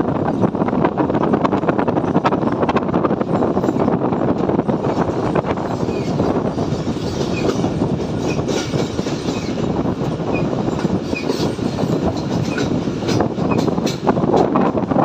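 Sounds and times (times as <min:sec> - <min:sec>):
train wheels rumbling and rattling: 0:00.0 - 0:15.0.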